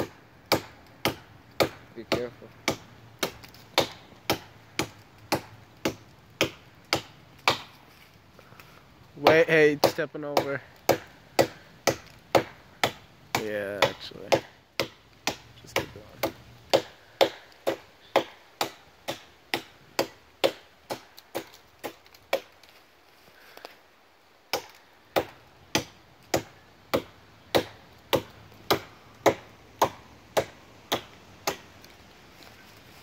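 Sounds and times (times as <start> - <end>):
hatchet chopping tree trunk: 0.0 - 7.8, 9.2 - 22.6, 24.5 - 31.8.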